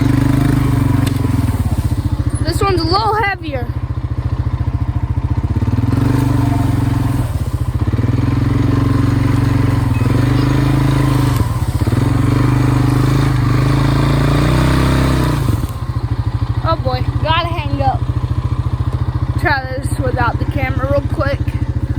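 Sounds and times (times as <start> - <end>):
atv engine revving: 0.0 - 21.9.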